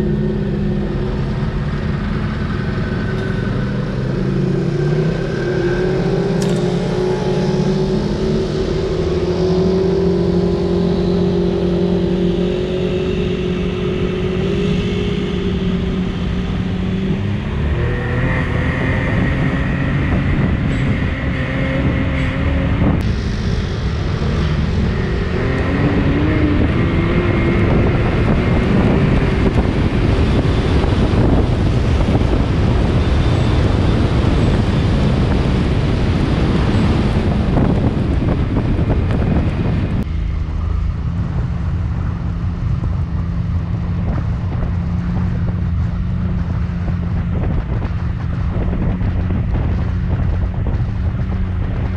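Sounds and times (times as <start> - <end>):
road and wind noise: 0.0 - 51.9
vehicle engine running: 0.0 - 51.9.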